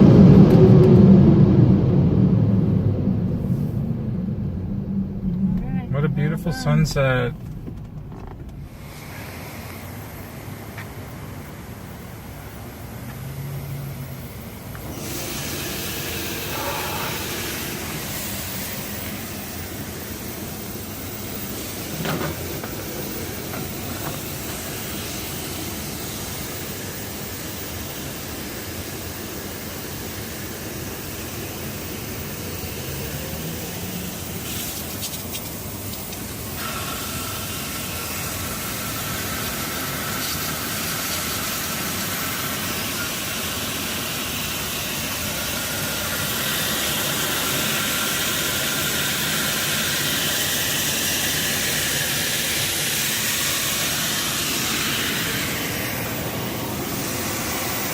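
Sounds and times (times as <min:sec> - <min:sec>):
car wash machinery hissing: 0:00.0 - 0:57.9
steady high whine: 0:00.0 - 0:57.9.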